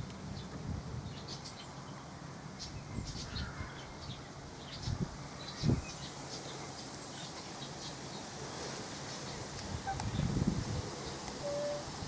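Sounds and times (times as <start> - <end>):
small birds chirping: 0.3 - 10.4.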